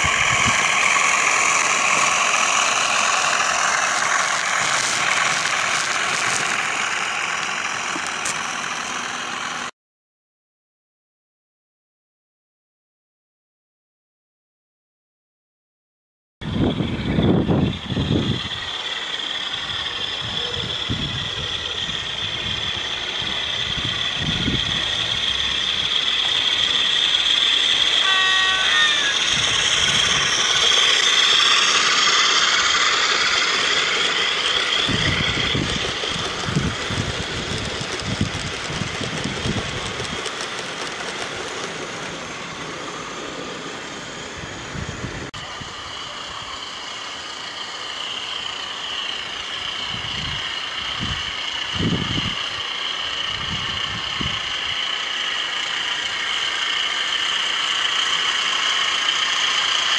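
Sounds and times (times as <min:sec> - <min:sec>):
model diesel engine sound: 0:00.0 - 0:09.7, 0:16.4 - 0:59.9
wagon wheels clicking on track: 0:00.0 - 0:09.7, 0:16.7 - 0:43.9, 0:46.0 - 0:59.9.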